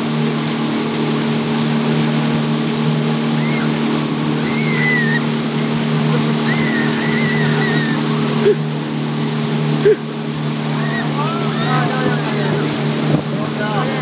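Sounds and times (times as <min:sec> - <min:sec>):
motorboat engine running: 0:00.0 - 0:14.0
water rushing from wake: 0:00.0 - 0:14.0.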